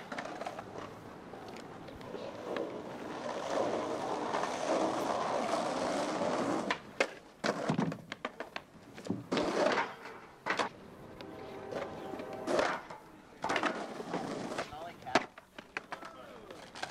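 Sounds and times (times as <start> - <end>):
skateboard deck clacking: 0.0 - 16.9
skateboard wheels rolling on asphalt: 0.0 - 16.9.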